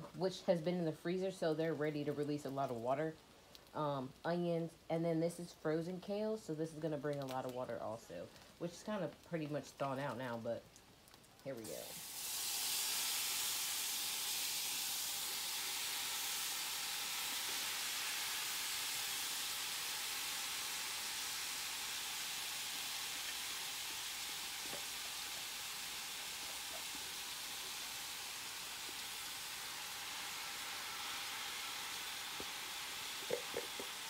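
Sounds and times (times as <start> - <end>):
vegetables sizzling in a skillet: 0.0 - 10.6, 11.3 - 34.0.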